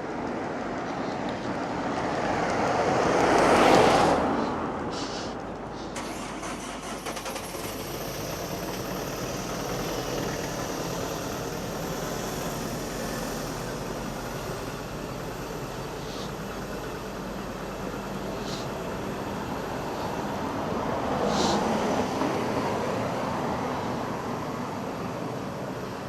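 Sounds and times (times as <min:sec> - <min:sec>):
engine rumble: 0:00.0 - 0:26.0
traffic hum: 0:00.0 - 0:26.0.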